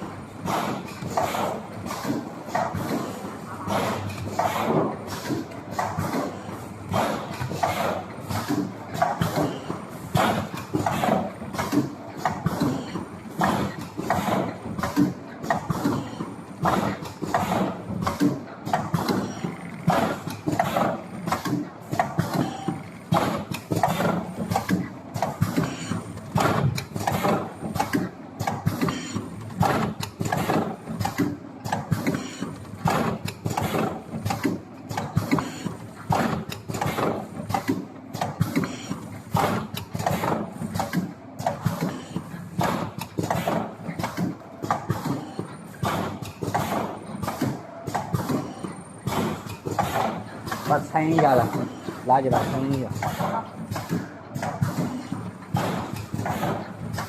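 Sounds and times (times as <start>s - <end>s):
packing machine clacking: 0.0s - 57.0s.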